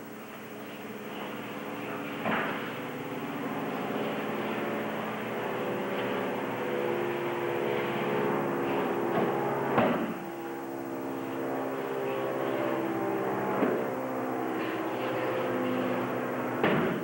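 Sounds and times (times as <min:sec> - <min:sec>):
steady droning hum: 0:00.0 - 0:17.0.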